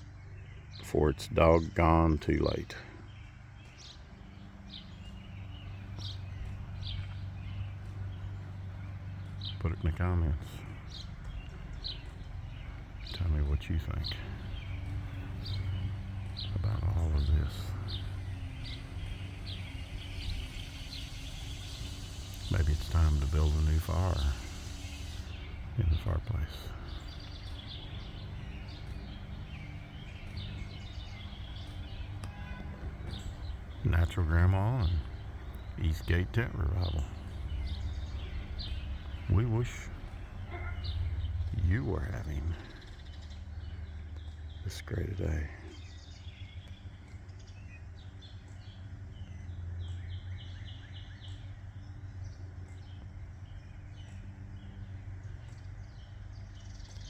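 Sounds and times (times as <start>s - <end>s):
birds chirping and singing: 0.0s - 57.0s
low background rumble: 0.0s - 57.0s.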